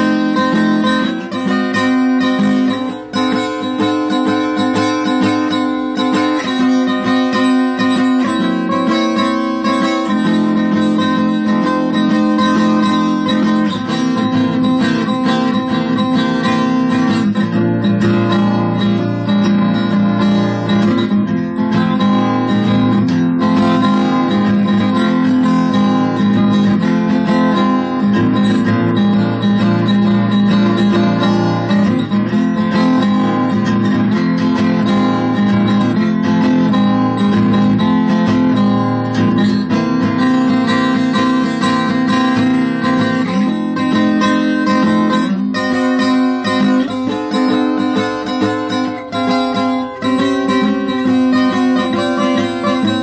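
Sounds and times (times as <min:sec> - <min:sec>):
acoustic guitar strumming blues: 0:00.0 - 0:53.0.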